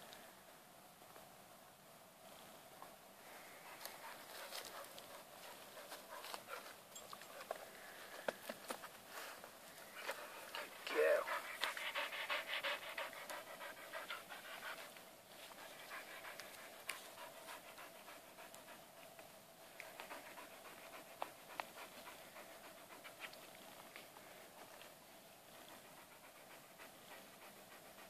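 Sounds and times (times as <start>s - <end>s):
dog panting: 3.6s - 7.6s, 8.7s - 28.0s.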